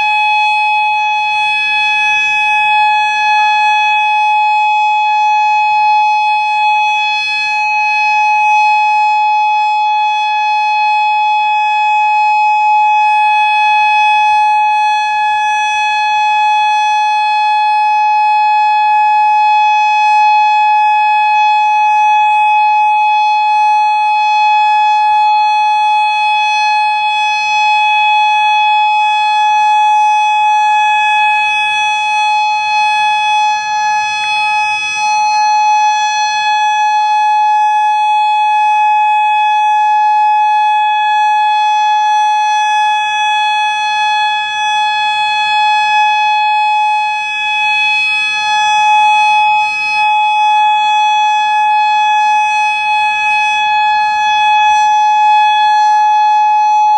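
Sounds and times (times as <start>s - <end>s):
steady electronic warning siren: 0.0s - 56.9s.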